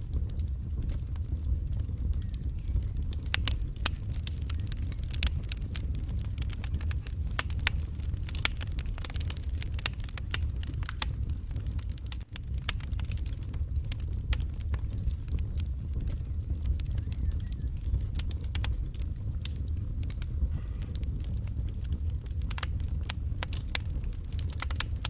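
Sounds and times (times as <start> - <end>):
low rumble of fire: 0.0 - 25.0
wood fire popping and snapping: 0.0 - 25.0.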